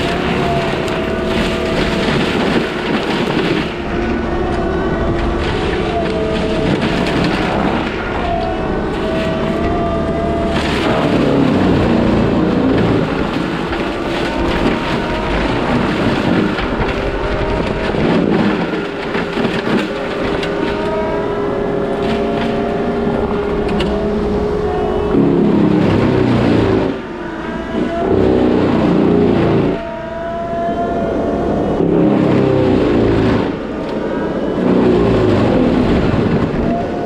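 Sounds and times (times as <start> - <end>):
mulching machine din: 0.0 - 37.0
wavering whine: 0.0 - 37.0.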